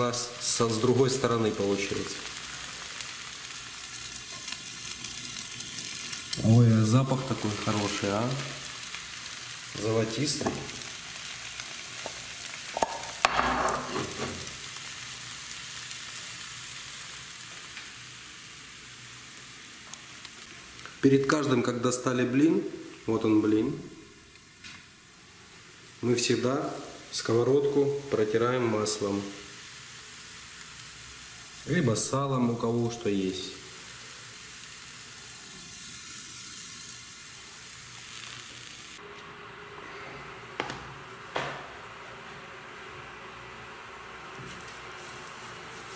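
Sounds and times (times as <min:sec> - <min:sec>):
pancake sizzling in a pan: 0:00.0 - 0:21.5, 0:24.0 - 0:39.0, 0:43.6 - 0:45.9.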